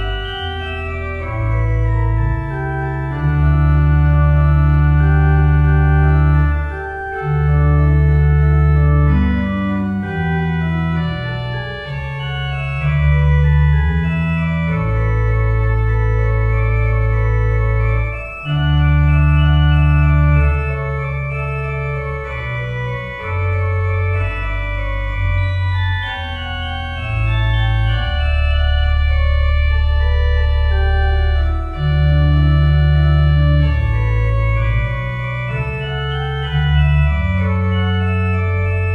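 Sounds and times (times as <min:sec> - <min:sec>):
deep organ bass notes: 0:00.0 - 0:38.9
organ chords: 0:00.0 - 0:38.9.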